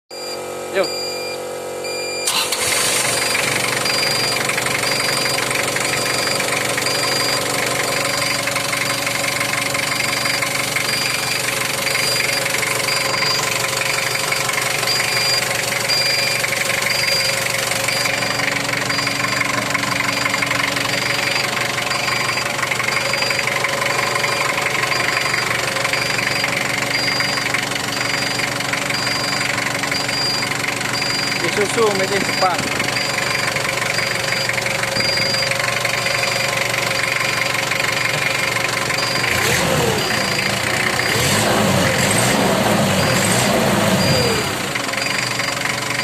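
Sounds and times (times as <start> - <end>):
diesel engine clattering: 0.8 - 46.0.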